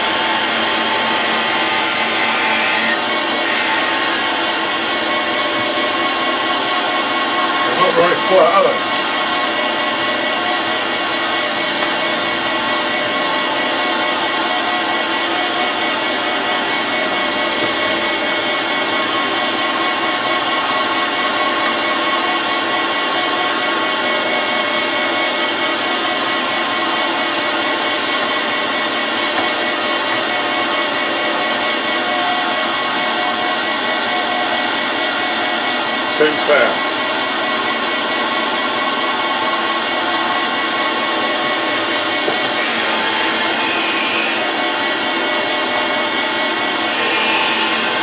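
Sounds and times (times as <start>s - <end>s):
grinder grinding steel: 0.0s - 48.0s.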